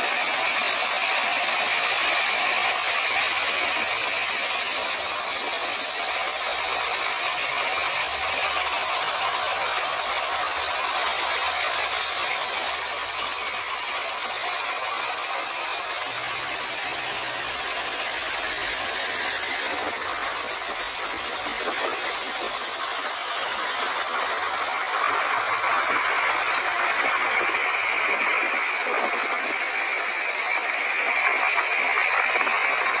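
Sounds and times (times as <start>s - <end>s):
wind: 0.0s - 33.0s.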